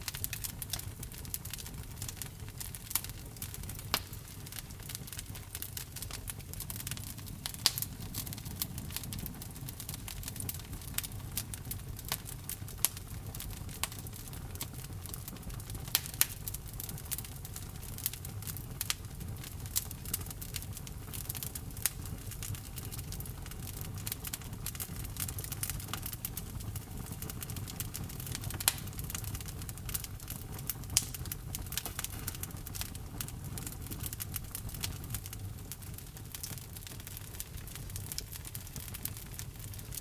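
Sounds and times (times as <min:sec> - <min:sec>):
logs crackling and popping: 0:00.0 - 0:40.0
low rumble of flames: 0:00.0 - 0:40.0.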